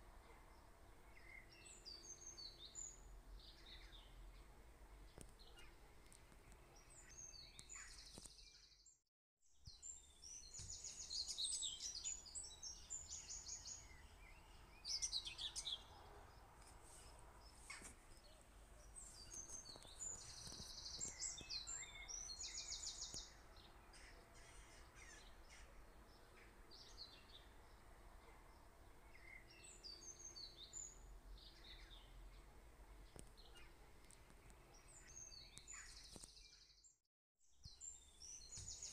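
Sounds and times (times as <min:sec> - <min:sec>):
faint birdsong chirps and trills: 0:00.0 - 0:38.9.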